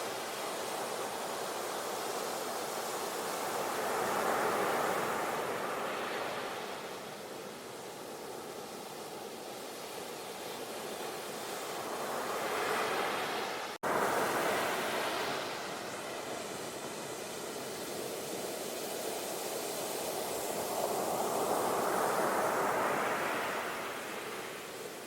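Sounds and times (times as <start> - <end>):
ocean waves washing ashore: 0.0 - 25.0.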